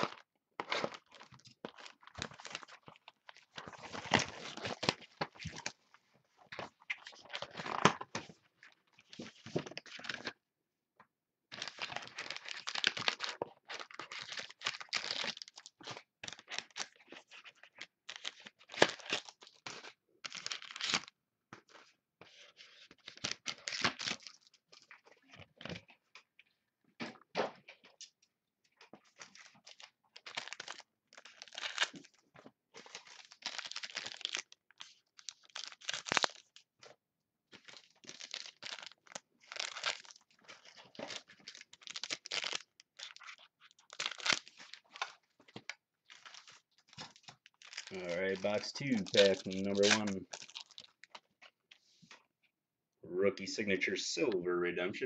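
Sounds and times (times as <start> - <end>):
wrapping crinkling and tearing: 0.0 - 10.4, 11.5 - 26.6, 27.6 - 52.2.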